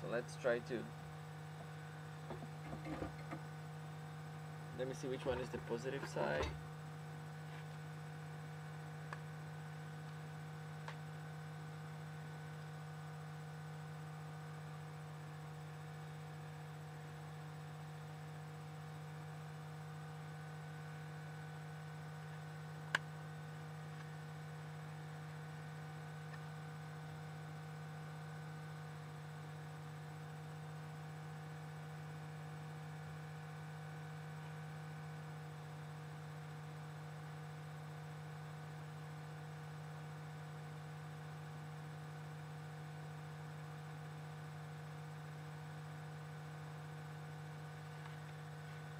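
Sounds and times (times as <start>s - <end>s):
steady electrical hum: 0.0s - 48.9s.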